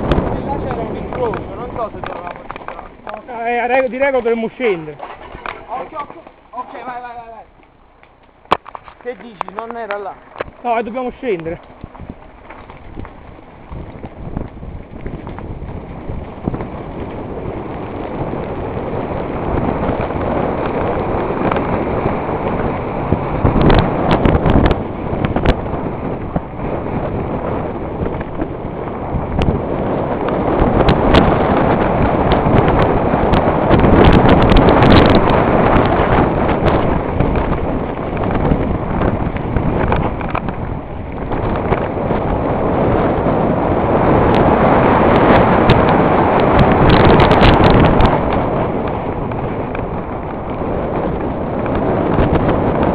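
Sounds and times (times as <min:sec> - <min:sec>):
bike rattling over bumps: 0:00.0 - 0:52.9
bike tyres crunching on gravel: 0:00.0 - 0:52.9
wind buffeting microphone: 0:00.0 - 0:52.9.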